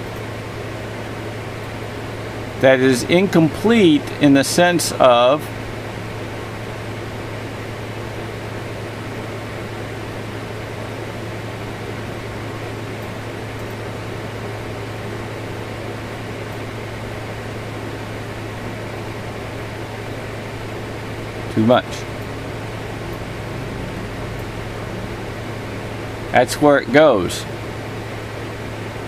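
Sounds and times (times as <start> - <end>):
background hum with hiss: 0.0 - 29.0.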